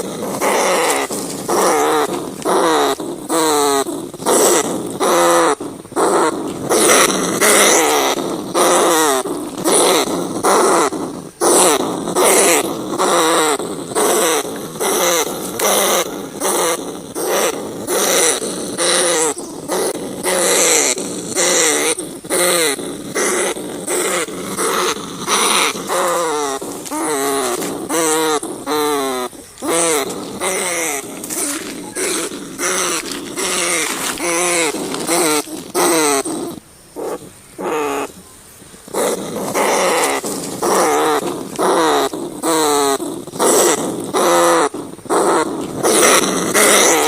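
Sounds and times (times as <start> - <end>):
rats squealing: 0.0 - 38.2, 38.8 - 47.0.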